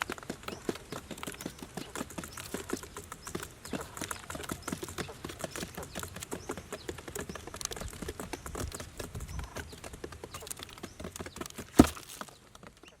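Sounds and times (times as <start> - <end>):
rapid clicking and tapping: 0.0 - 12.8.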